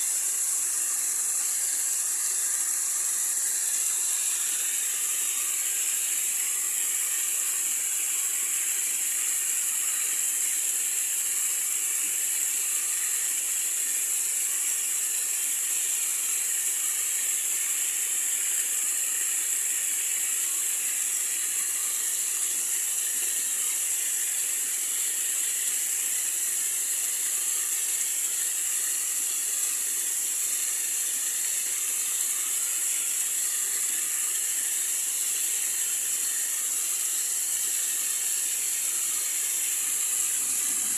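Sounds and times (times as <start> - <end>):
running water hiss: 0.0 - 40.9.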